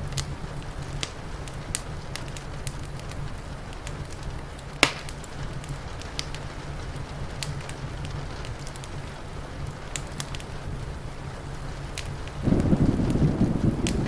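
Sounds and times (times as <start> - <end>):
rain hissing: 0.0 - 14.0
wood fire crackling: 0.0 - 14.0.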